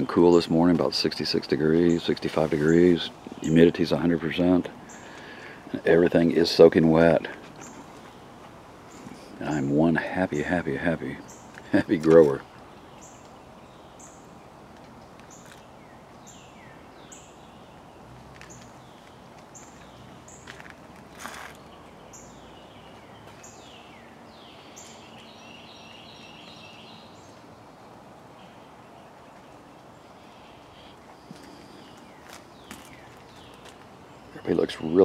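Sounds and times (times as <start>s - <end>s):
low outdoor hum: 0.0s - 35.0s.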